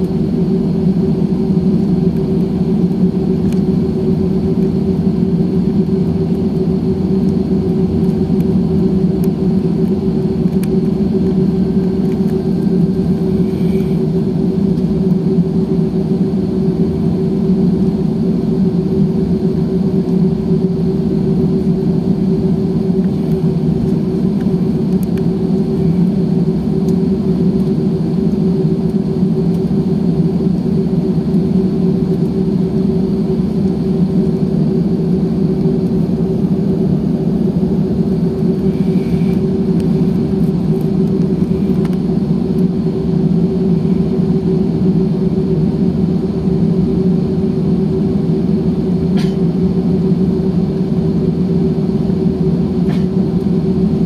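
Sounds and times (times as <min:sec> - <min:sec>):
airplane cabin engine hum: 0:00.0 - 0:54.0.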